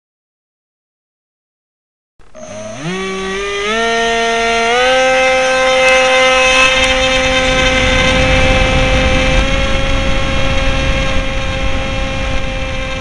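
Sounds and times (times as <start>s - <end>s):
electric motor and propeller whine: 2.2s - 13.0s.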